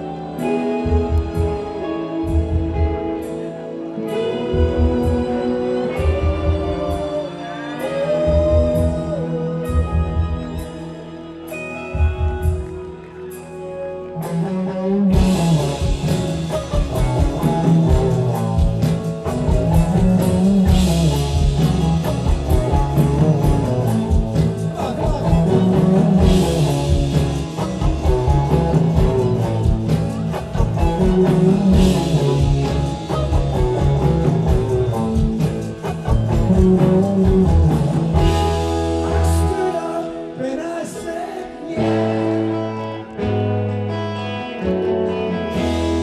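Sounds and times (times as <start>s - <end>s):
person singing: 0.0s - 18.7s, 19.4s - 43.7s
drums: 0.0s - 46.0s
live rock band playing: 0.0s - 46.0s.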